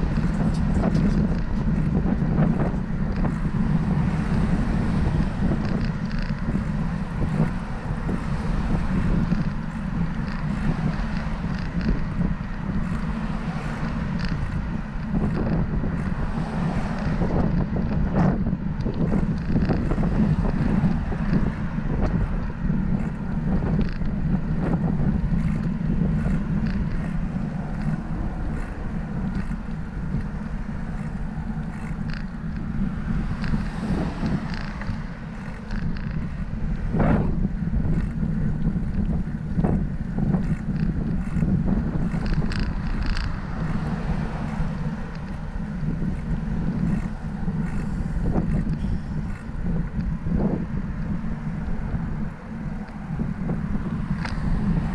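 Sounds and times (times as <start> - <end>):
road and traffic noise: 0.0 - 54.9
small clicks and rattles: 0.0 - 54.9
wind rumble on microphone: 0.0 - 54.9.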